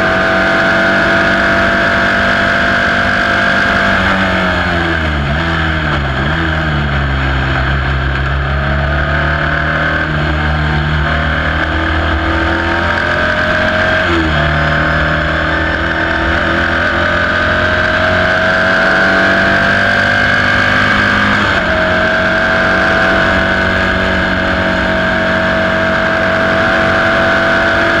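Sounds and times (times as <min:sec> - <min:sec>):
racing car engine at high revs: 0:00.0 - 0:28.0.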